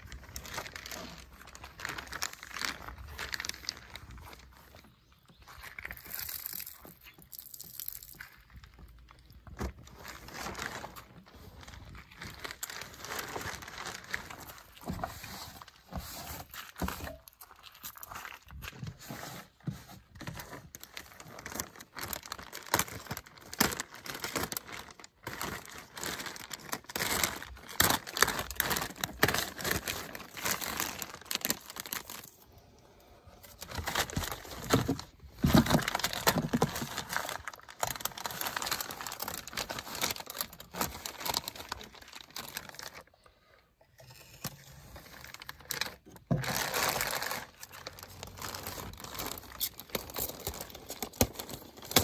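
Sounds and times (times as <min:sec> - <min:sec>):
plastic sheeting crinkling: 0:00.0 - 0:32.5, 0:33.4 - 0:43.1, 0:44.2 - 0:52.0.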